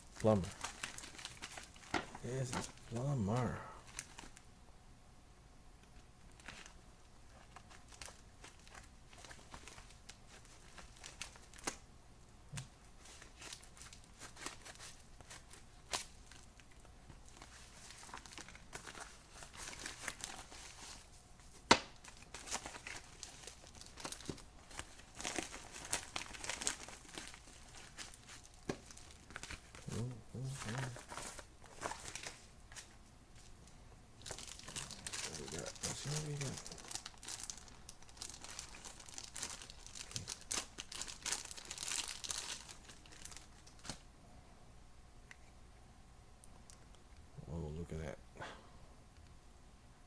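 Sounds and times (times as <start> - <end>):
packaging crinkling and tearing: 0.0 - 4.4, 5.9 - 11.8, 12.5 - 21.1, 21.7 - 44.0.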